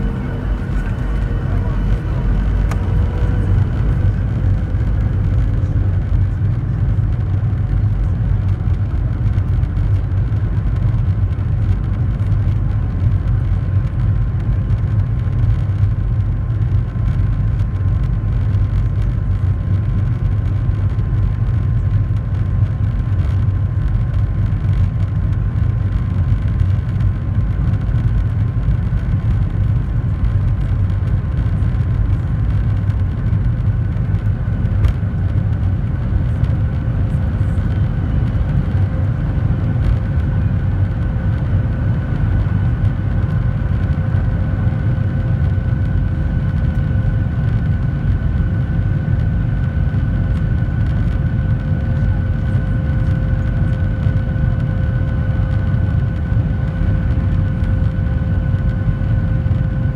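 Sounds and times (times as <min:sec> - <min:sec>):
aircraft cabin rumble: 0:00.0 - 0:59.9
faint steady whine: 0:00.0 - 0:59.9.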